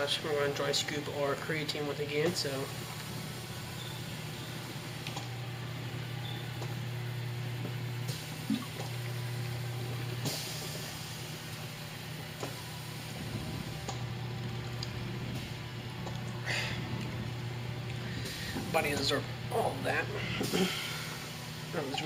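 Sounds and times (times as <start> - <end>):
massage chair motor humming: 0.0 - 22.0.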